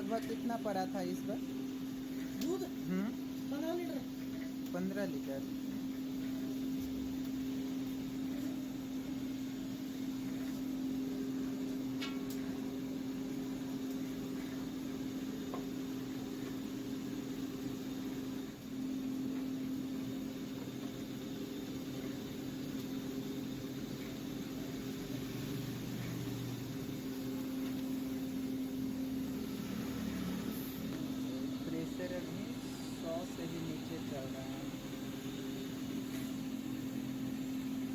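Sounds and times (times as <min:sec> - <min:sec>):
faint steam hiss: 0:00.0 - 0:37.9
machine hum: 0:00.0 - 0:37.9.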